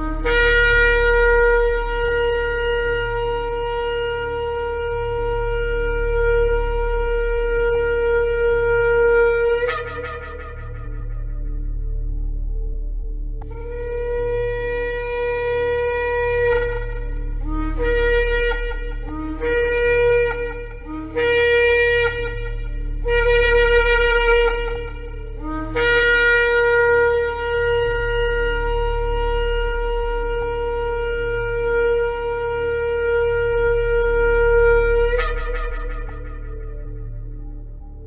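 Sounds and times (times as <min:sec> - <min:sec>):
shofar blasts: 0:00.0 - 0:12.8, 0:13.4 - 0:38.0
steady low hum: 0:00.0 - 0:38.0.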